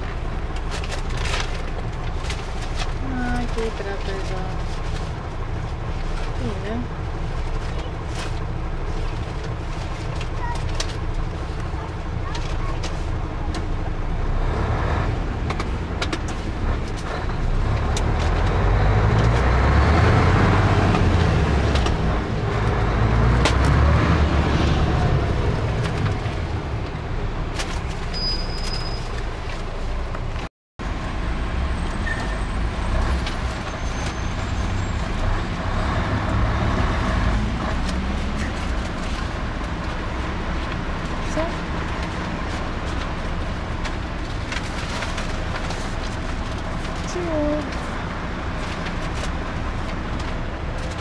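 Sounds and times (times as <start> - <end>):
road noise: 0.0 - 51.0
truck engine from inside cab: 0.0 - 51.0.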